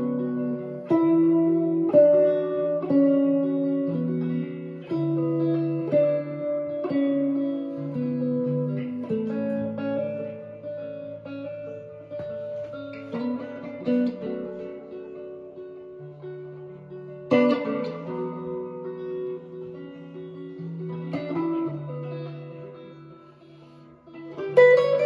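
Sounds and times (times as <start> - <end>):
electric guitar played slowly: 0.0 - 25.0
strummed guitar chord: 0.0 - 25.0.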